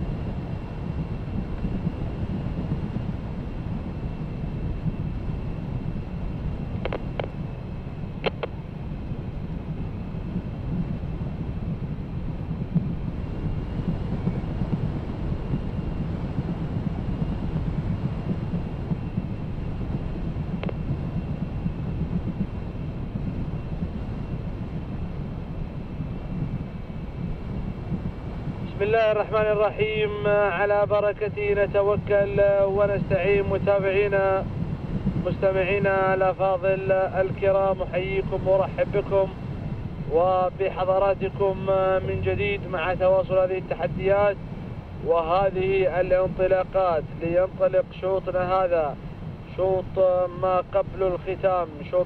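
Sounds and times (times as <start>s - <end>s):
faint high whine: 0.0s - 52.0s
wind buffeting microphone: 0.0s - 52.0s.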